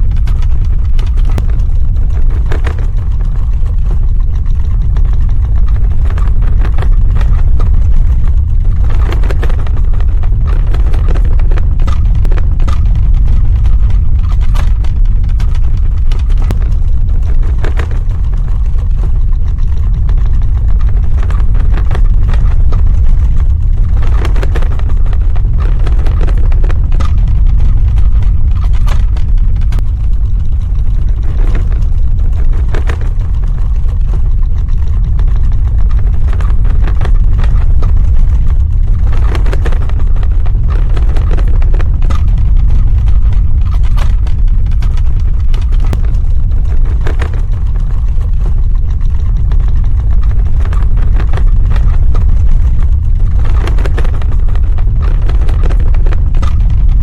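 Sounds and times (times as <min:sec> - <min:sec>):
deep rumble: 0:00.0 - 0:57.0
faint crackles and rattles: 0:00.0 - 0:57.0.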